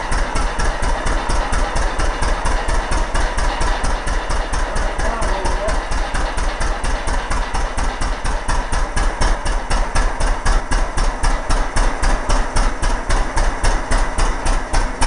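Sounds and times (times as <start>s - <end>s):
marine engine idling: 0.0s - 15.0s.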